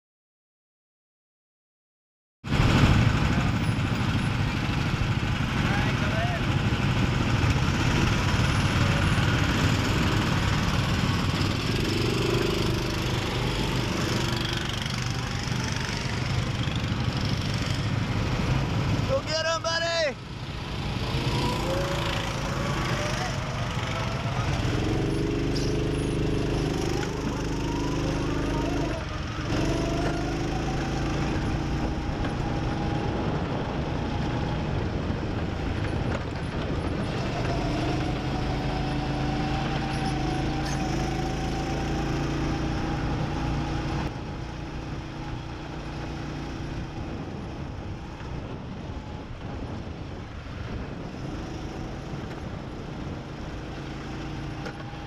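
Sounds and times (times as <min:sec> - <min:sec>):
go-kart engine running: 0:02.5 - 0:19.2, 0:20.2 - 0:55.0.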